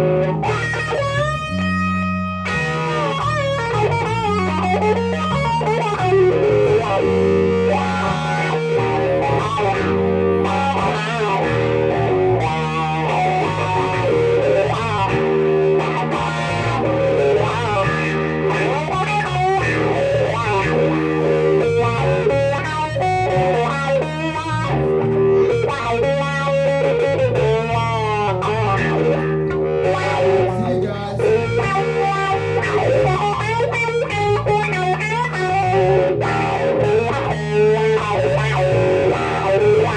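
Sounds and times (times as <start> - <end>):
electric bass line: 0.0 - 39.9
electric guitar lead: 0.0 - 39.9.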